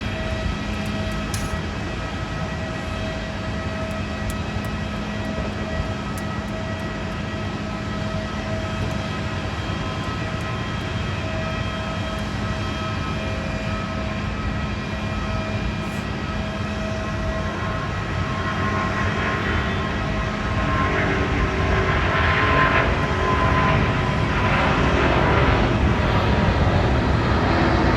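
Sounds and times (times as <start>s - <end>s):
jet engines whining: 0.0s - 27.9s.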